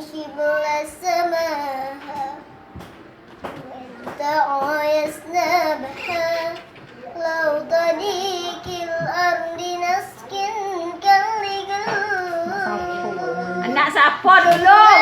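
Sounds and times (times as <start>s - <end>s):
child singing: 0.0s - 15.0s.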